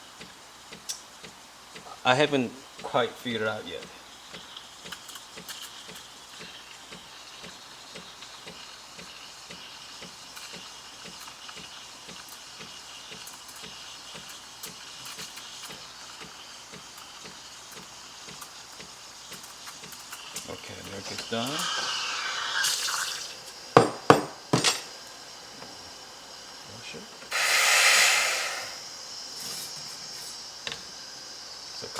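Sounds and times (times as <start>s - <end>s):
steam wand frothing milk: 0.0s - 31.9s.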